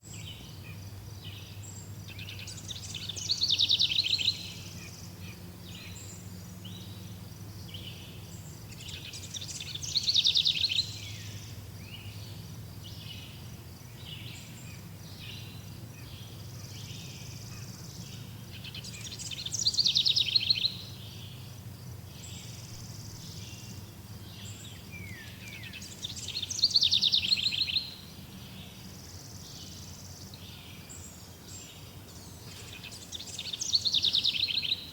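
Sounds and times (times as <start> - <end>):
low steady hum: 0.0 - 34.9
songbird trilled song: 0.0 - 34.9.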